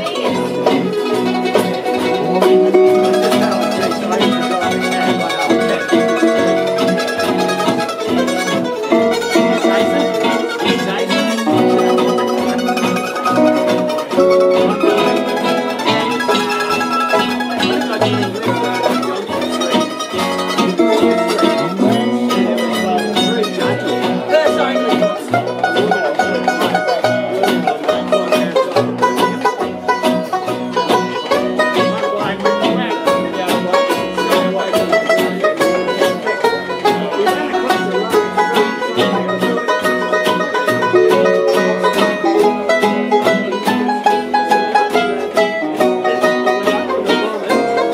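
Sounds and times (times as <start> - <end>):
banjo: 0.0 - 47.9
mandolin: 0.0 - 47.9
ukulele: 0.0 - 47.9.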